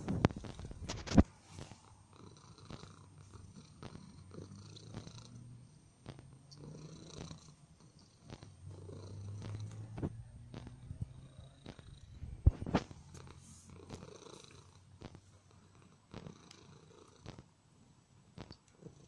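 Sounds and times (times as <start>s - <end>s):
cat purring: 0.0s - 17.5s, 18.3s - 19.0s.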